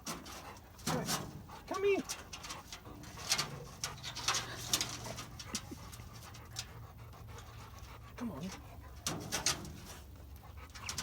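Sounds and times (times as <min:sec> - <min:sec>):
dog panting: 0:00.3 - 0:11.0.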